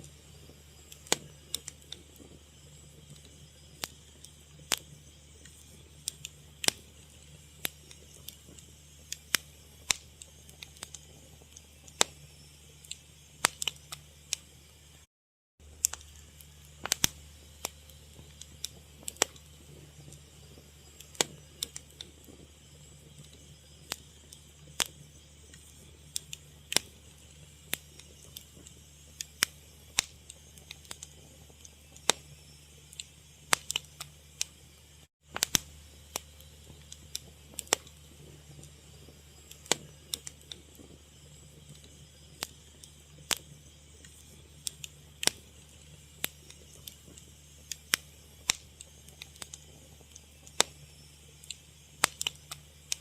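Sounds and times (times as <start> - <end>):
fire crackling: 0.0 - 53.0
low steady hum: 0.0 - 53.0.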